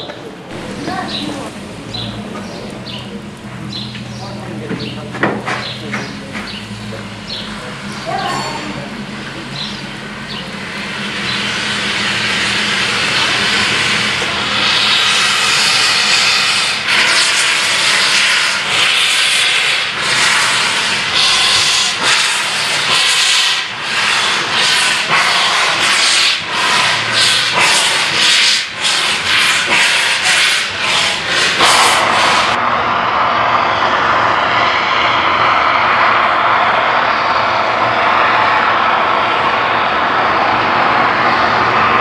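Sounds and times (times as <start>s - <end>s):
steam locomotive hissing and chuffing: 0.0s - 42.0s.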